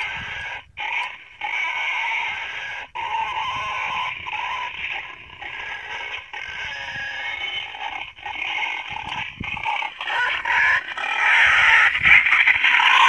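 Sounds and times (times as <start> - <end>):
wild boar calling: 0.0 - 13.0.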